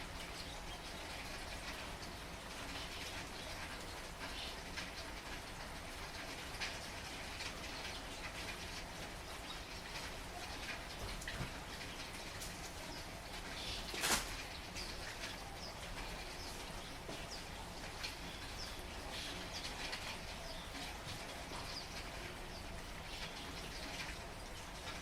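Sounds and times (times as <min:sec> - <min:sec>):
steady rain hissing: 0:00.0 - 0:25.0
small birds chirping: 0:00.2 - 0:05.2, 0:07.5 - 0:25.0.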